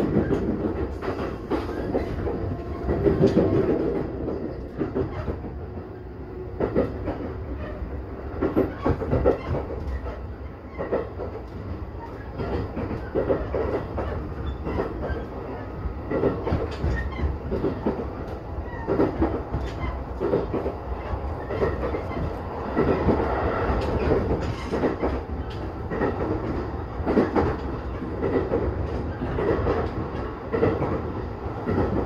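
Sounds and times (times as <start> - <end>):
wheels clacking over rail joints: 0.0 - 5.6, 6.6 - 32.0
train rumble from inside carriage: 0.0 - 32.0.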